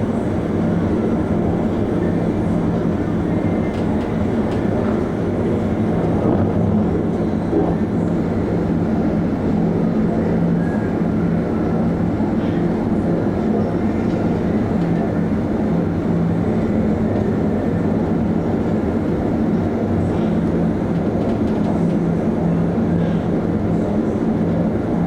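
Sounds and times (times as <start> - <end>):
ship engine hum: 0.0 - 20.9.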